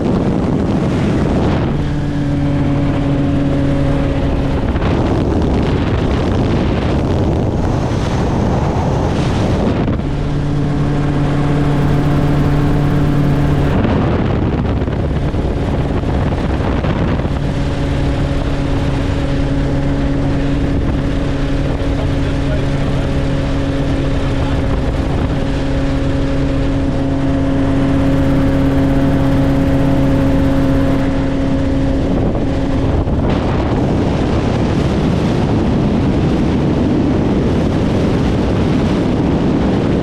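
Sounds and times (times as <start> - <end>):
helicopter drone: 0.0 - 40.0
wind rushing on microphone: 0.0 - 40.0.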